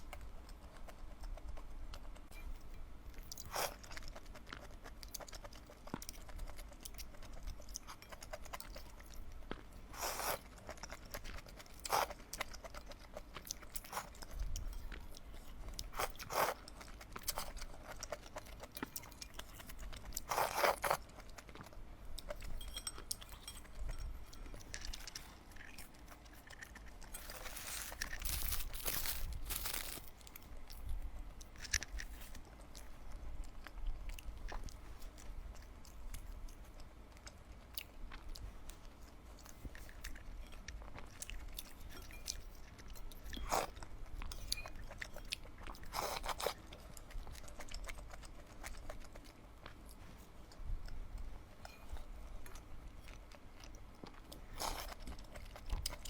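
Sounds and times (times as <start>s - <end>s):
person chewing and crunching: 0.0s - 56.0s.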